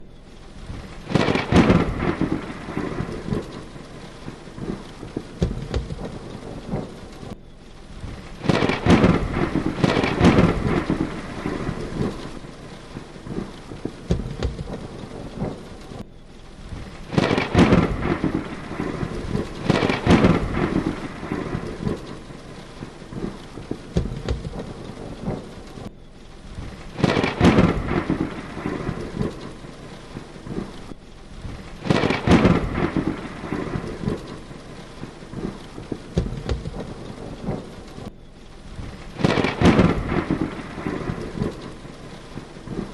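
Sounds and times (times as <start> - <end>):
heavy rain pouring: 0.0 - 42.9
thunder cracks and rumbles: 0.6 - 38.1, 38.7 - 42.9.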